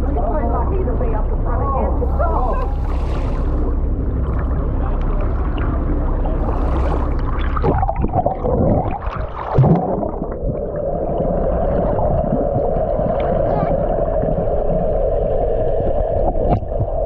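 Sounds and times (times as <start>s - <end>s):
muffled underwater hum: 0.0s - 17.0s
water sloshing and gurgling: 0.0s - 17.0s
water splashing and swirling: 2.0s - 17.0s.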